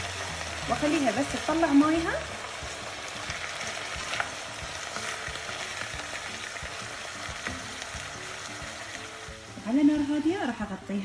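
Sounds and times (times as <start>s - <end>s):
chicken and onion sizzling in oil: 0.0s - 11.0s.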